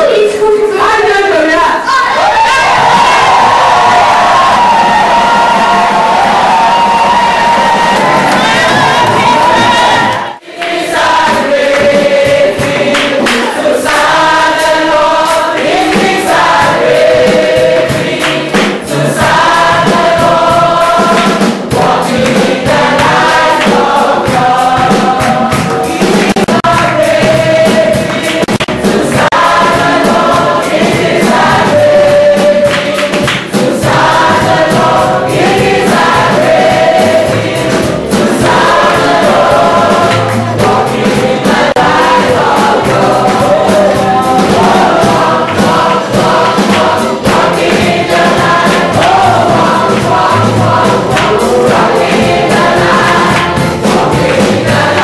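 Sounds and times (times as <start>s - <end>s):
gospel choir singing with band: 0.1s - 55.0s.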